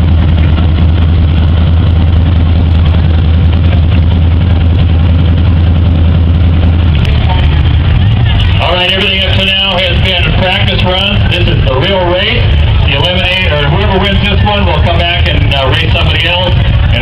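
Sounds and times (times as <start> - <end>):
hot rod engine idling: 0.0 - 17.0.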